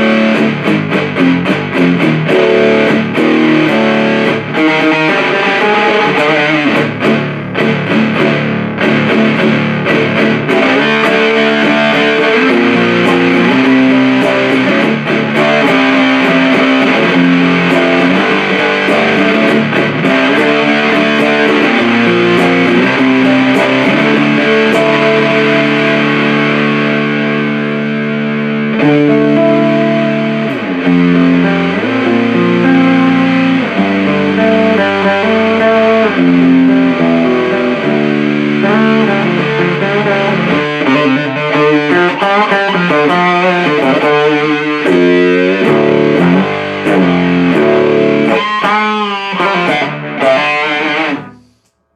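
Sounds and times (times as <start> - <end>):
fuzzy electric guitar riffs: 0.0 - 51.9.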